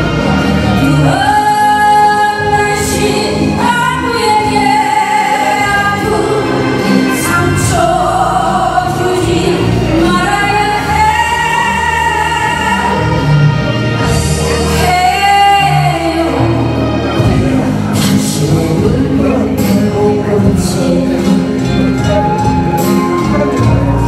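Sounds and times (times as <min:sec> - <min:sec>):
instrumental backing music: 0:00.0 - 0:24.0
woman singing into microphone: 0:00.6 - 0:13.5, 0:14.1 - 0:21.8.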